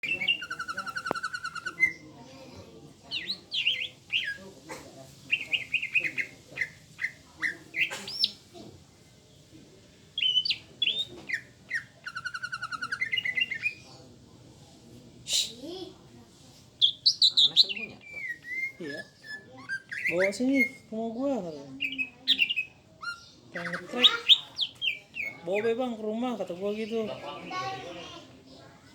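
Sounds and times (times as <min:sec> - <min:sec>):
bird singing trills and chirps: 0:00.0 - 0:04.6, 0:05.2 - 0:08.6, 0:10.1 - 0:14.1, 0:16.8 - 0:28.9.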